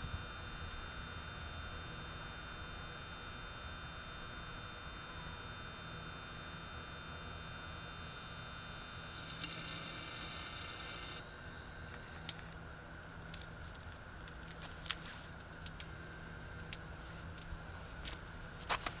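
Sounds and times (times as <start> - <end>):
fluorescent tube high-pitched whine: 0.0 - 19.0
low ballast hum: 0.0 - 19.0.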